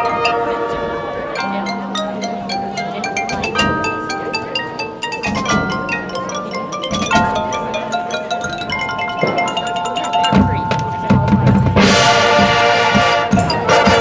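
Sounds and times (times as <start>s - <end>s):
marching band playing: 0.0s - 14.0s
marimba and glockenspiel notes: 0.0s - 14.0s.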